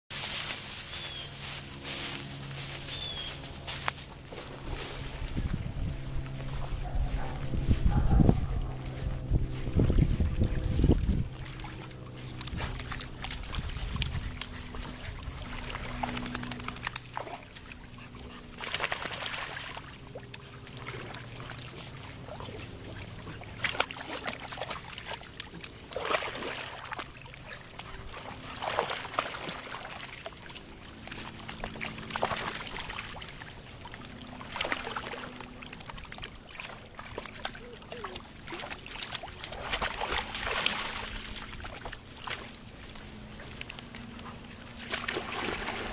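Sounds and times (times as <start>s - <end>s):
water sloshing and splashing: 3.2s - 45.9s.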